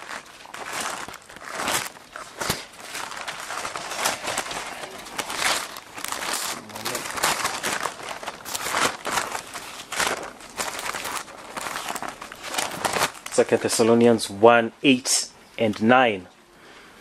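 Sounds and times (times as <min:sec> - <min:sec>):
paper pages rustling: 0:00.0 - 0:13.8.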